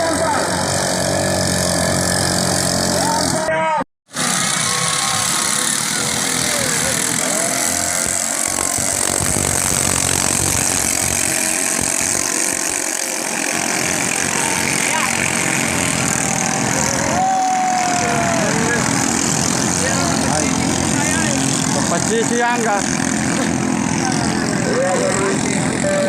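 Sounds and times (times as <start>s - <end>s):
voices: 0.0s - 1.2s, 2.7s - 3.8s, 4.5s - 11.4s, 12.8s - 26.0s
boat engines running: 0.0s - 26.0s.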